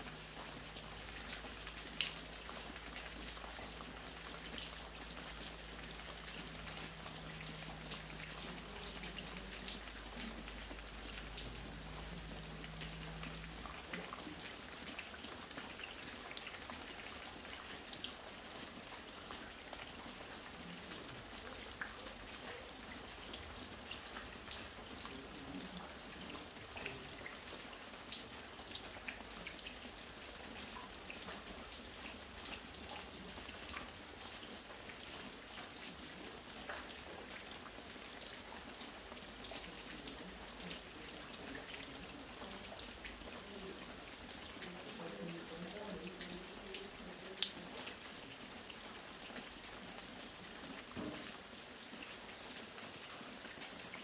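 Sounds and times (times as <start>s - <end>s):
light rain falling: 0.0s - 54.0s
raindrops ticking: 0.0s - 54.0s.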